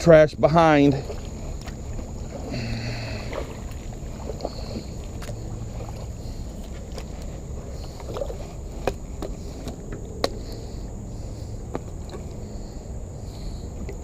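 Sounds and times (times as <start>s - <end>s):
kayak paddling on water: 0.0s - 14.0s
water trickling: 0.0s - 14.0s.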